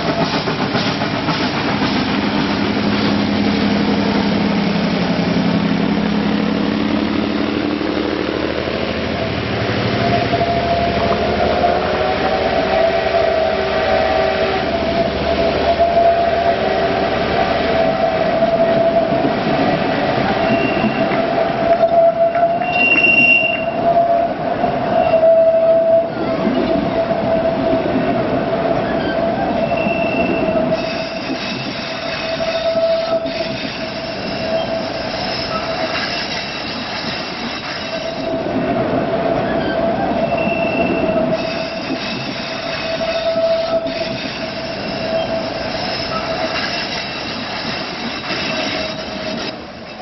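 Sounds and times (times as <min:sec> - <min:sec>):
train wheels squealing on rails: 0:00.0 - 0:05.6, 0:09.6 - 0:50.0
rumble of train running gear: 0:00.0 - 0:50.0.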